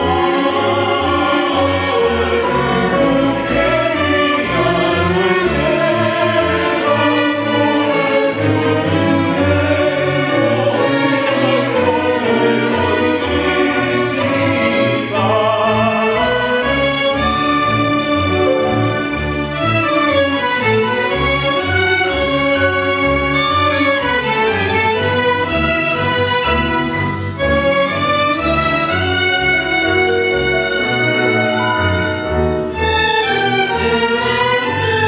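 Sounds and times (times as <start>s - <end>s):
string orchestra playing: 0.0s - 35.0s.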